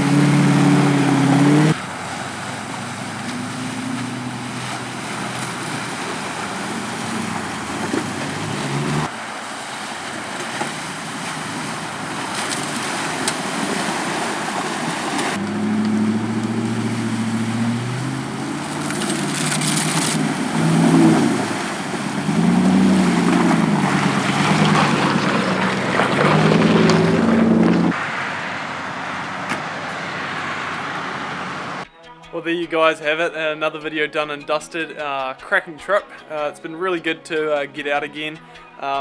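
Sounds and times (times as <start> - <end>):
engine running and changing revs: 0.0 - 31.9
rushing water: 0.0 - 31.9.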